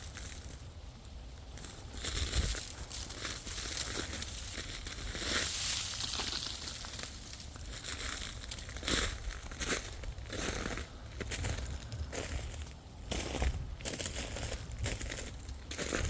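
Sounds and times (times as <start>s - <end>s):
ice crackling and crunching: 0.0s - 16.0s.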